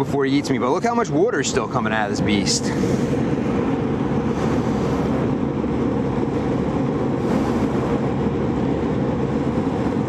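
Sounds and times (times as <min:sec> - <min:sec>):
air conditioning unit droning: 0:00.0 - 0:10.0.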